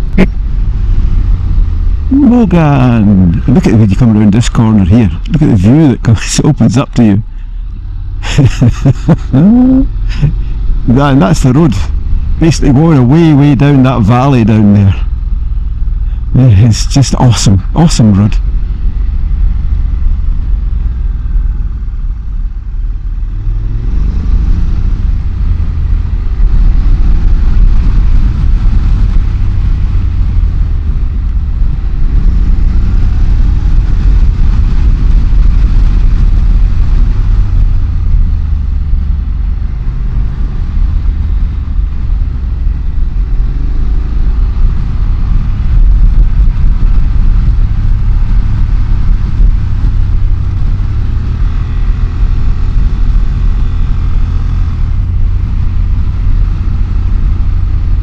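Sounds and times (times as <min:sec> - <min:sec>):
motorcycle engine accelerating: 0:00.0 - 0:06.4, 0:07.2 - 0:16.9, 0:17.6 - 0:58.0
wind and road noise: 0:00.0 - 0:58.0.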